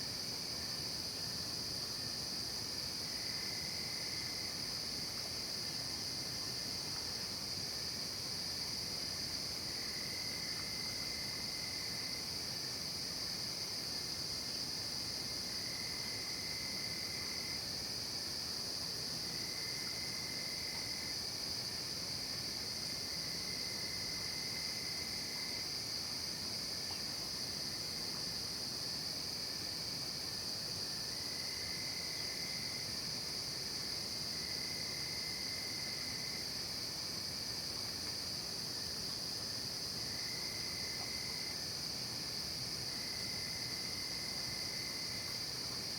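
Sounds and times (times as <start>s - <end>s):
crickets and insects trilling: 0.0s - 45.9s
low insect tone: 0.0s - 45.9s.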